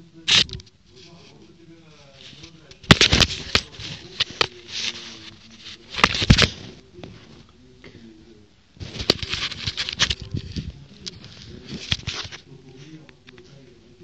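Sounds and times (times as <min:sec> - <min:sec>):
rubbing against phone microphone: 0:00.3 - 0:07.6, 0:08.8 - 0:13.1.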